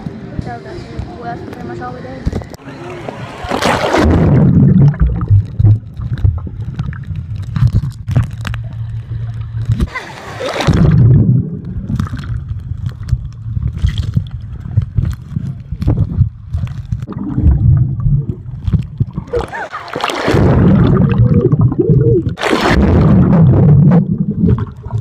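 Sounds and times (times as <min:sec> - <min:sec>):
rush of bubbles: 0:03.2 - 0:14.4, 0:15.0 - 0:25.0
underwater sloshing and gurgling: 0:03.3 - 0:25.0
low underwater rumble: 0:03.6 - 0:25.0.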